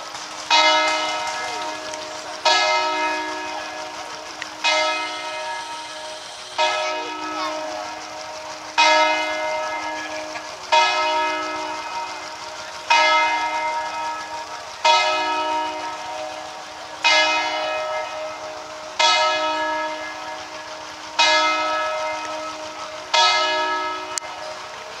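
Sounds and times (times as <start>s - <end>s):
church bell tolling: 0.0s - 25.0s.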